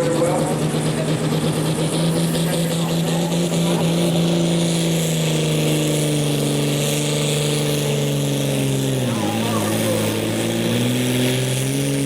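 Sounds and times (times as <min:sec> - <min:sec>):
tractor diesel engine straining: 0:00.0 - 0:12.0.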